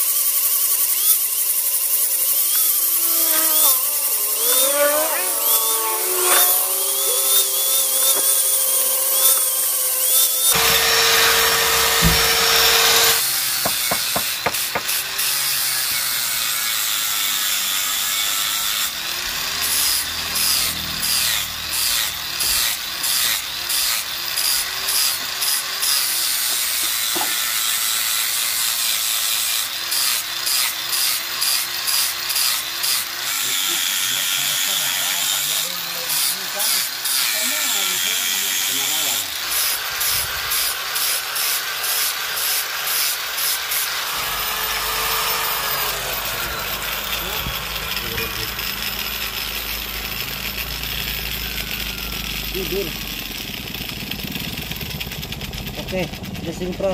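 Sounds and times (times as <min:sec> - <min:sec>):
angle grinder motor whine: 0:00.0 - 0:56.9
grinding disc rasping on metal: 0:00.0 - 0:56.9.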